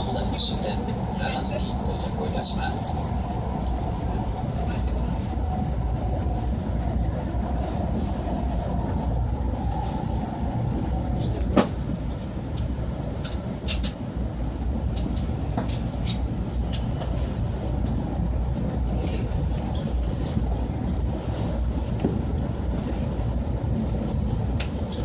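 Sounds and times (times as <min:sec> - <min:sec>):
train cabin rumble: 0:00.0 - 0:25.0.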